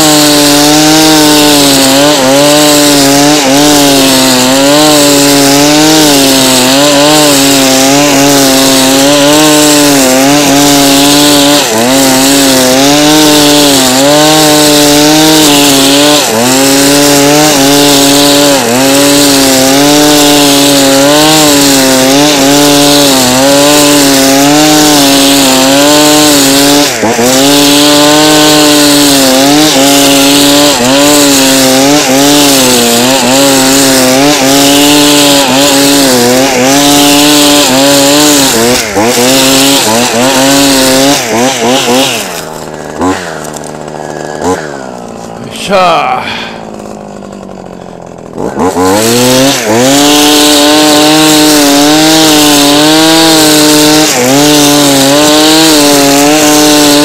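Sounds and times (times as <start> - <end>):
brush cutter cutting grass: 0.0 - 57.0.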